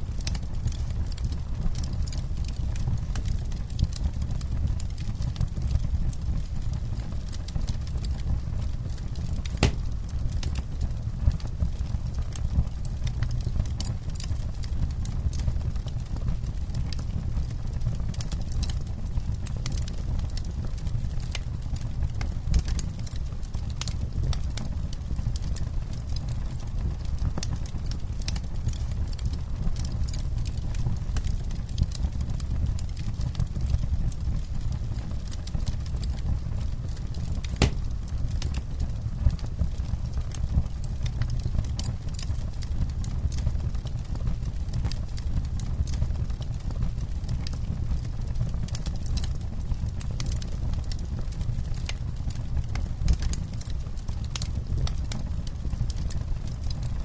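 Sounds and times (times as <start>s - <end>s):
campfire crackling: 0.0s - 56.9s
fire popping and snapping: 0.0s - 57.0s.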